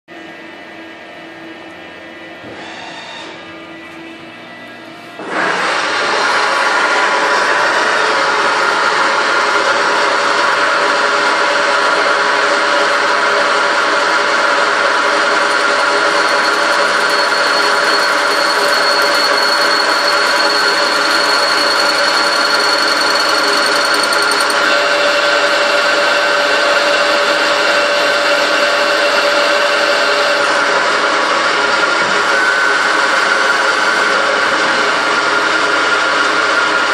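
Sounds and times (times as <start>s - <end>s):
machine tool whine: 2.4s - 36.9s.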